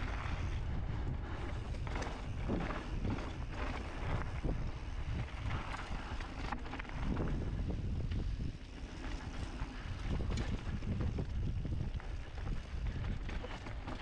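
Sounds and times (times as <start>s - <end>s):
bike rolling on dirt trail: 0.0s - 14.0s
wind buffeting microphone: 0.0s - 14.0s.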